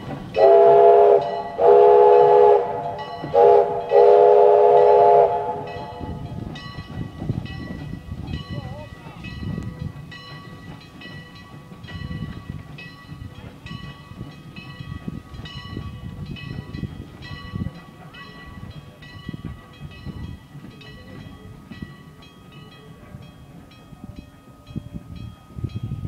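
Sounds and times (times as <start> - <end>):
locomotive bell ringing: 0.0 - 26.0
locomotive engine and wheels rumbling: 0.0 - 26.0.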